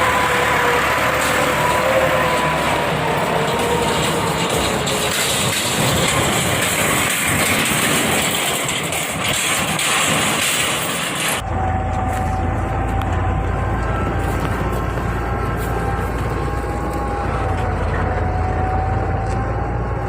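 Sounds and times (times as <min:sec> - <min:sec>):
tractor engine clattering: 0:00.0 - 0:20.0.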